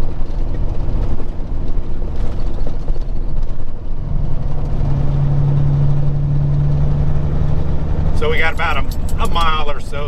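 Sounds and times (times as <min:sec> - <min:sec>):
road noise: 0:00.0 - 0:10.0
truck diesel engine rumble: 0:00.0 - 0:10.0.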